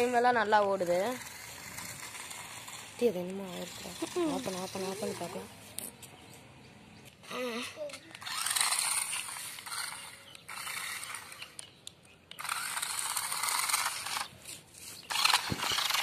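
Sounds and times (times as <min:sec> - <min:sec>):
toy car electric motor whirring: 0:00.0 - 0:05.9, 0:07.2 - 0:16.0.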